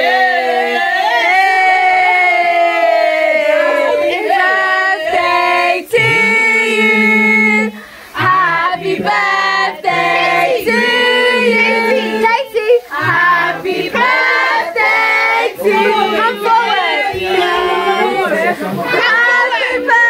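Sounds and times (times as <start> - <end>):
women and children singing: 0.0 - 20.0.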